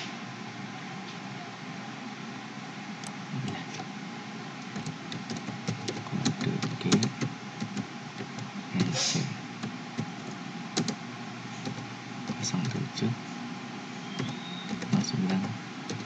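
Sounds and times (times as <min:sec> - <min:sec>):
background hiss: 0:02.7 - 0:16.0.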